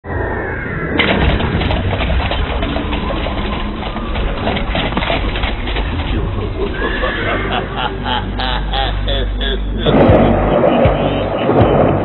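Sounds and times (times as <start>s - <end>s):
low steady rumbling: 0.0s - 12.0s.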